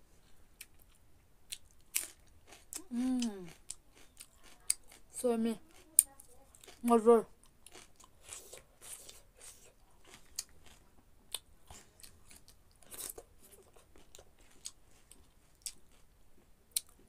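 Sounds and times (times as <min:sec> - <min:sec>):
chewing noodles: 0:00.6 - 0:17.0.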